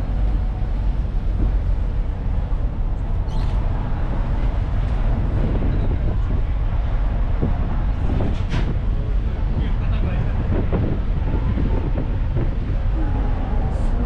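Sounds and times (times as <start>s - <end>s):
ferry engine rumble: 0.0s - 14.0s.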